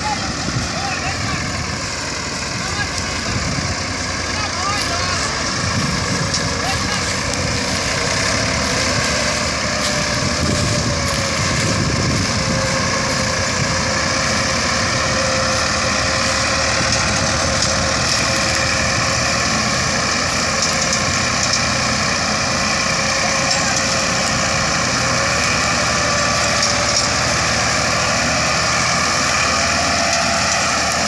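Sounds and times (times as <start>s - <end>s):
tractor diesel engines under load: 0.0s - 31.0s.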